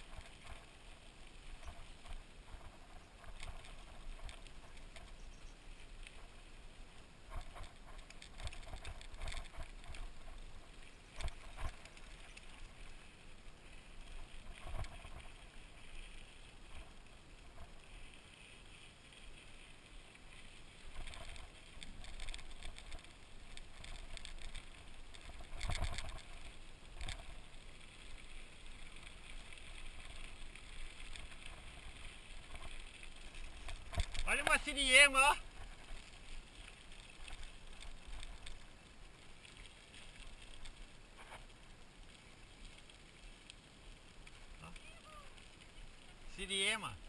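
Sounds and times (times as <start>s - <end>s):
bike tyre rumble on dirt: 0.0s - 47.0s.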